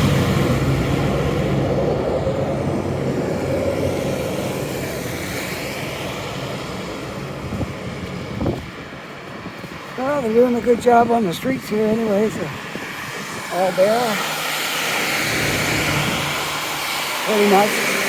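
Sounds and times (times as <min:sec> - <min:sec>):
vehicle engine passing: 0:00.0 - 0:18.0.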